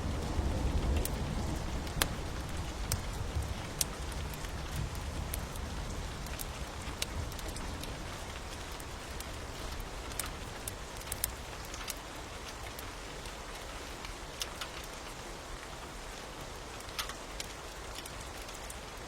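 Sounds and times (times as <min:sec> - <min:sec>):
wood fire crackling: 0:00.0 - 0:15.2, 0:15.8 - 0:19.0
steady rain falling: 0:00.0 - 0:19.0.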